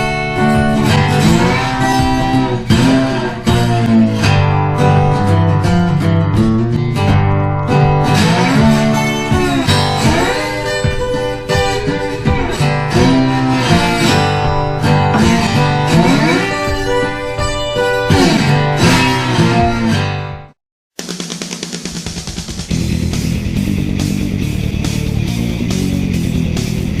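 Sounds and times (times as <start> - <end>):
country-blues guitar music: 0.0 - 20.6, 22.7 - 27.0.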